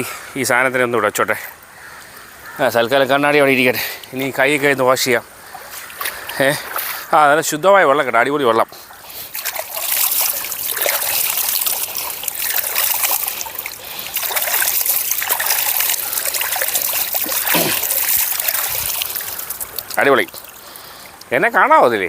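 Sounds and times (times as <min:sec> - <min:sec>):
water splashing and running: 0:02.9 - 0:21.8.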